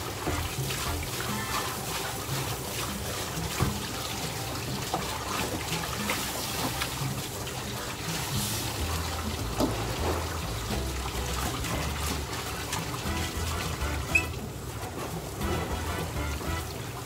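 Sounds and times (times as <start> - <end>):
brush scrubbing wok: 0.0 - 17.0
tap water running: 0.0 - 17.0.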